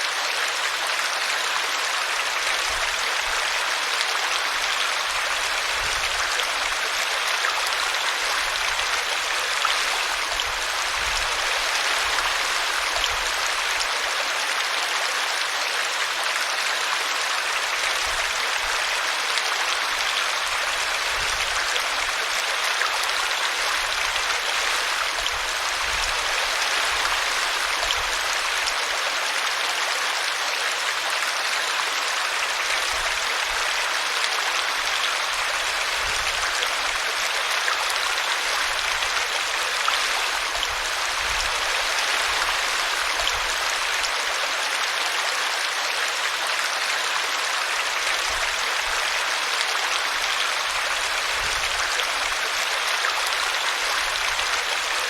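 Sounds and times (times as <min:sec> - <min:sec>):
brook water rushing: 0:00.0 - 0:55.0.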